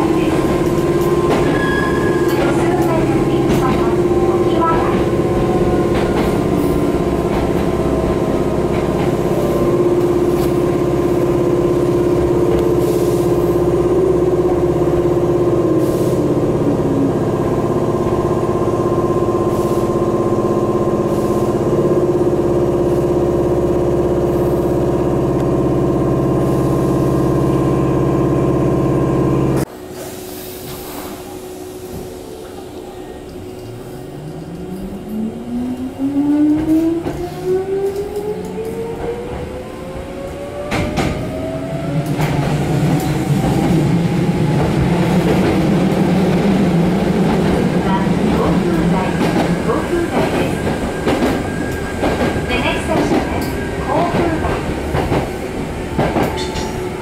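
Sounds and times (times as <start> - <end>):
train electrical hum: 0.0 - 57.0.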